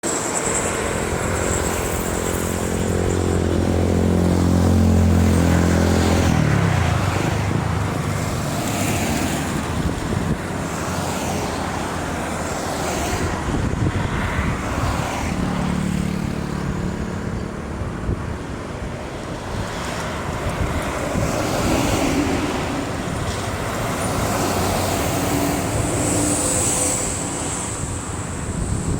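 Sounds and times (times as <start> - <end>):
road and traffic noise: 0.0 - 28.9.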